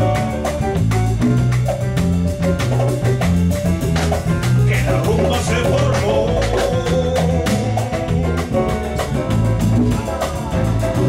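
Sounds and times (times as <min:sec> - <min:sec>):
busy percussion: 0:00.0 - 0:11.0
electric bass line: 0:00.0 - 0:11.0
latin band playing: 0:00.0 - 0:11.0
vibrato lead melody: 0:00.0 - 0:11.0.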